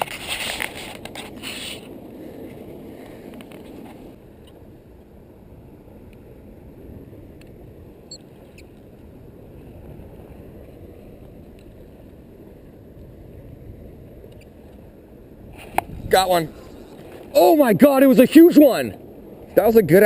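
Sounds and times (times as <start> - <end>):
low rumbling wind noise: 0.0 - 20.0.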